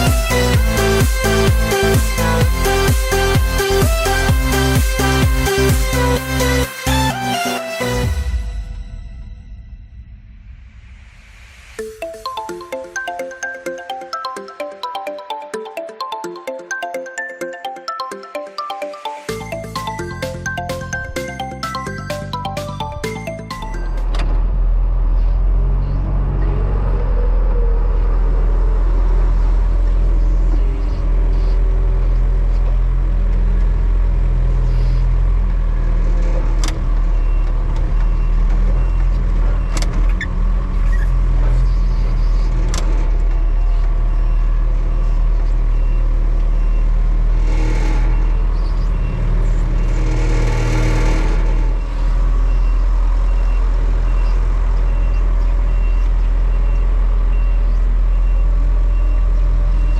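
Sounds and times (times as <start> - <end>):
tractor engine running: 0.0 - 9.2, 19.1 - 59.9.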